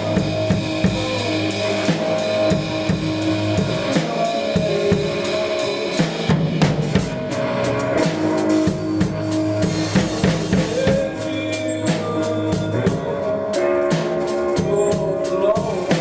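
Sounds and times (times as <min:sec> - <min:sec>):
drum kit beat: 0:00.0 - 0:16.0
instrumental blues music: 0:00.0 - 0:16.0.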